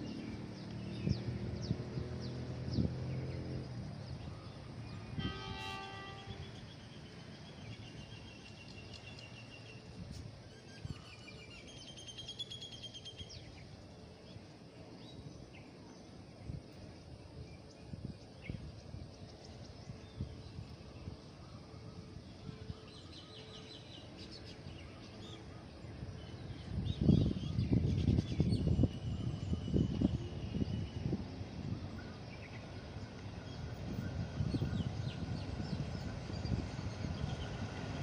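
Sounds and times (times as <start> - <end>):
warbling birdsong: 0.0 - 38.0.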